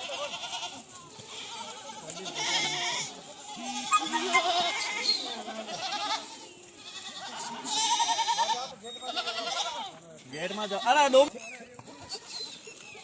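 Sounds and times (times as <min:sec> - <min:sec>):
goats bleating: 0:00.0 - 0:13.0.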